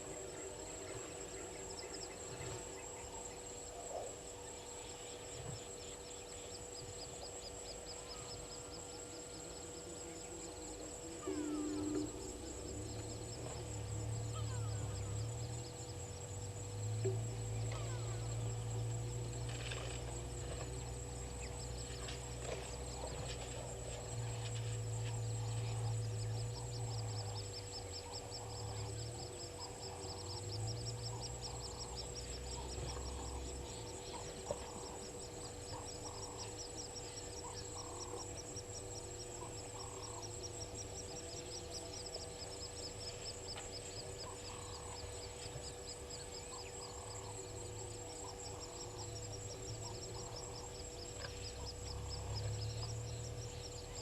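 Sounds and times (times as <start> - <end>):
high insect buzz: 0.0 - 54.0.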